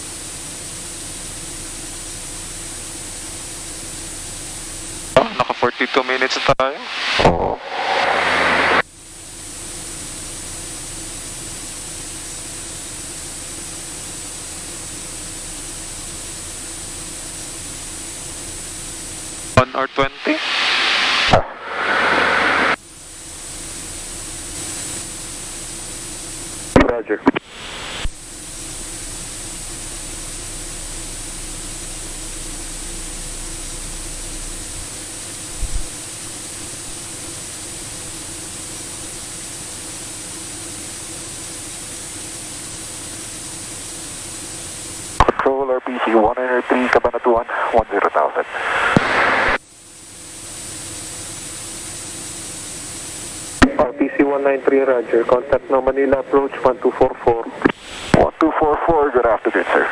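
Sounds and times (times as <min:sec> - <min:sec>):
faint hum: 0:00.0 - 0:59.9
turboprop engine drone: 0:00.0 - 0:59.9
cockpit intercom hiss: 0:02.1 - 0:59.9.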